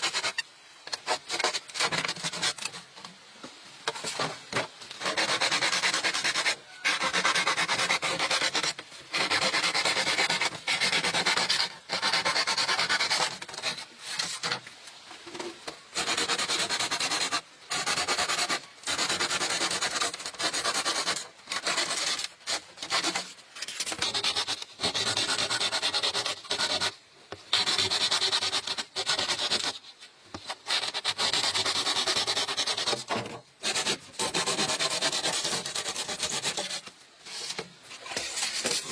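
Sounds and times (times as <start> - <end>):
bamboo being scraped: 0.0 - 3.1, 3.8 - 38.9.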